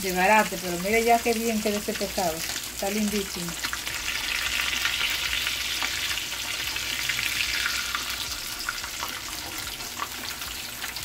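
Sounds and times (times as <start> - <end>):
food sizzling in frying oil: 0.0 - 11.0.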